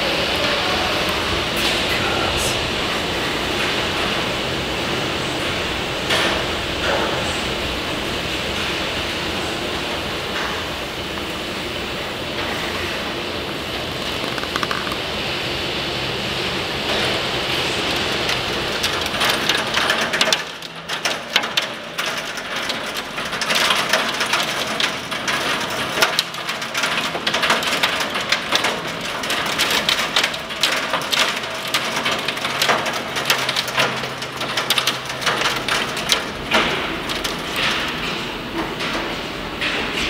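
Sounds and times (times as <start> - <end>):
torrential rain and hail pelting: 0.0 - 39.8.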